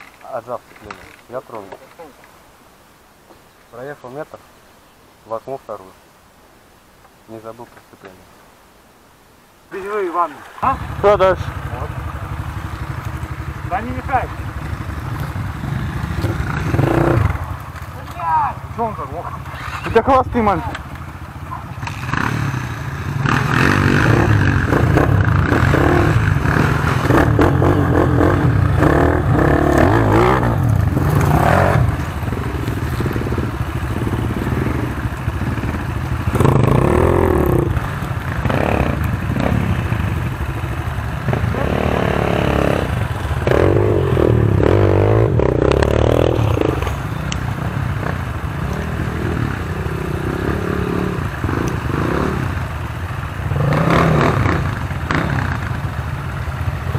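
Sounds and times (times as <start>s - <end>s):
dirt bike engine revving: 10.3s - 56.9s.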